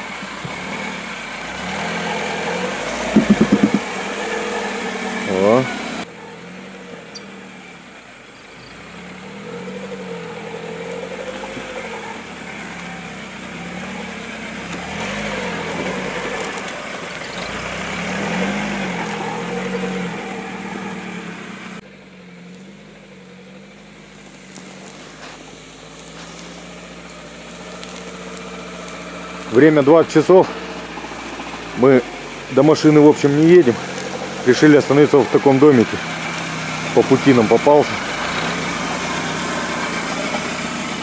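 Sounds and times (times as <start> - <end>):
all-terrain vehicle engine running: 0.0 - 41.0.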